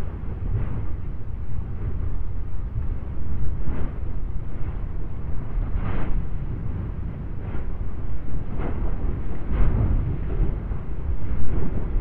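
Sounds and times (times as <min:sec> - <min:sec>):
deep thunderous rumble of lava: 0:00.0 - 0:12.0.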